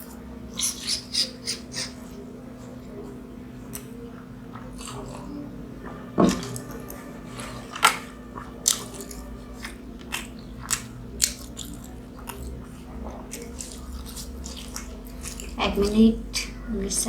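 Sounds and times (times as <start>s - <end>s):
chewing crunchy fried bread: 0.0s - 16.6s.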